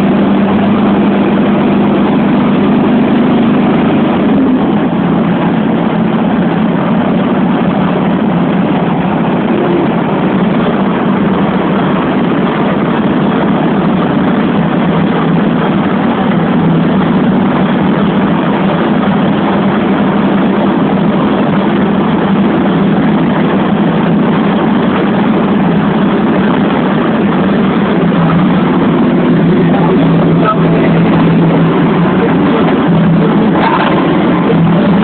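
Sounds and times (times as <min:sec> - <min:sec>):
road noise: 0:00.0 - 0:35.0
van engine drone: 0:00.0 - 0:35.0.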